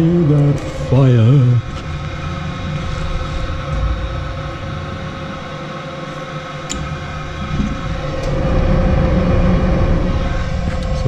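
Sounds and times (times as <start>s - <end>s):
furnace inducer motor humming: 0.0s - 11.0s
low rumble: 0.0s - 11.0s.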